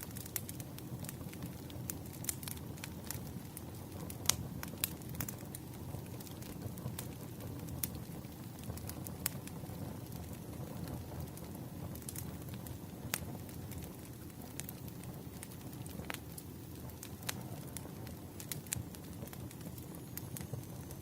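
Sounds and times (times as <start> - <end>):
campfire crackling and popping: 0.0 - 21.0
low rumble of flames: 0.0 - 21.0.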